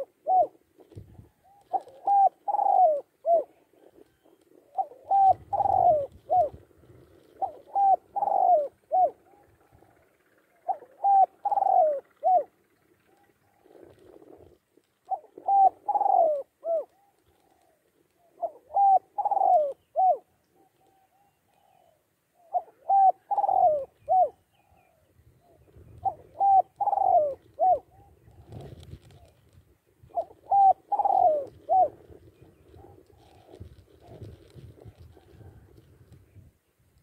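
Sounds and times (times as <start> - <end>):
dove cooing: 0.0 - 36.5.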